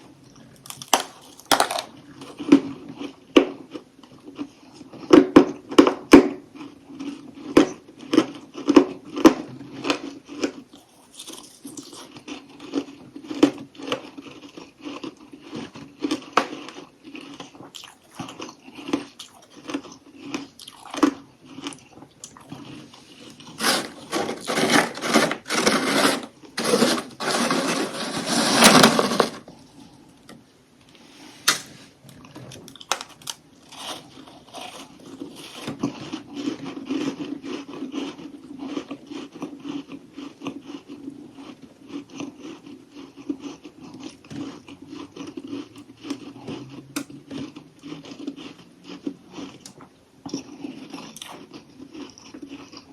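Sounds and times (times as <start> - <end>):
chewing crunchy ice: 0.3 - 29.1, 32.2 - 52.9.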